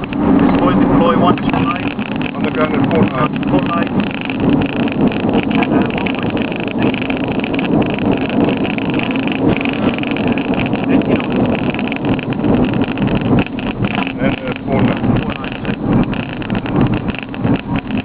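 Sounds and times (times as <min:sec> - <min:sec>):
aircraft engine and runway noise: 0:00.0 - 0:18.0.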